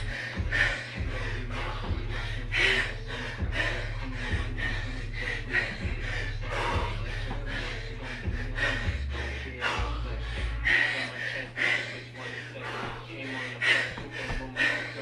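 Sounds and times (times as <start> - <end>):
man panting heavily: 0.0 - 15.0.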